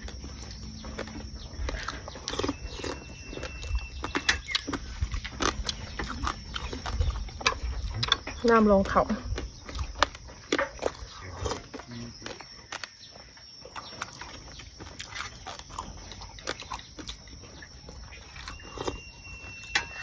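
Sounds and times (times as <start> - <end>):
person chewing with wet smacks: 0.0 - 19.7.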